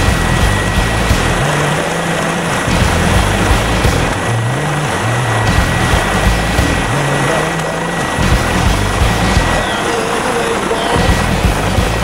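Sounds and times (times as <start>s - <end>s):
helicopter rotor and engine: 0.0s - 12.0s
high whine: 0.0s - 12.0s.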